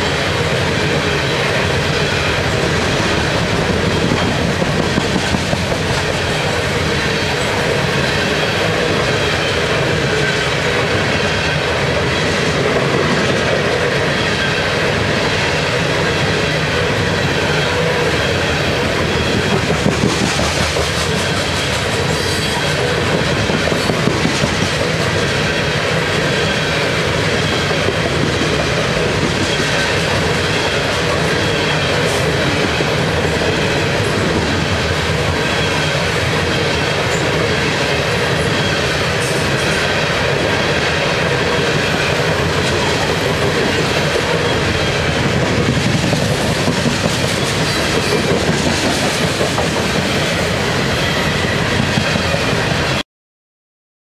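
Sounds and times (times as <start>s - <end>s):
train wheels clicking over rail joints: 0.0s - 52.7s.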